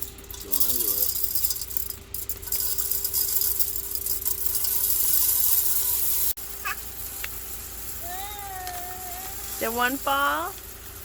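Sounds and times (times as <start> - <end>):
birdseed pouring: 0.0 - 11.0.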